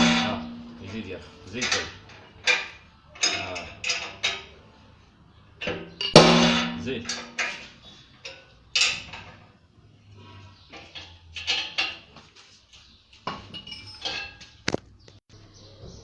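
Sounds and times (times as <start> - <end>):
metal tools clinking: 0.0 - 4.7, 5.6 - 9.6, 10.6 - 14.7.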